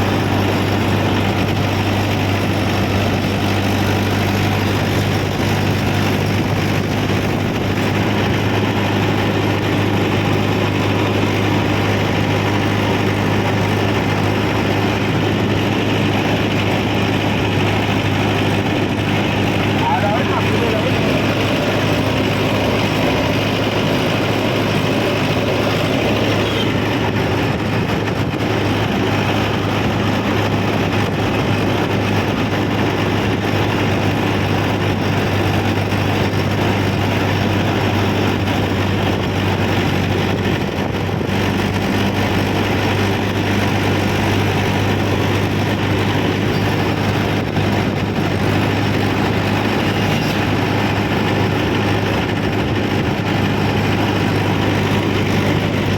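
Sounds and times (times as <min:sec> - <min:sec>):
tractor diesel engine droning: 0:00.0 - 0:55.9.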